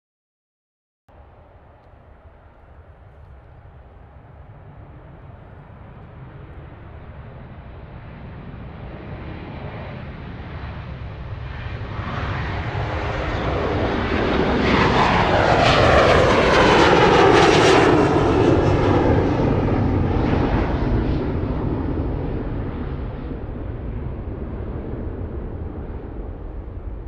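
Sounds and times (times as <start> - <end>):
aircraft flying over: 1.1 - 27.0.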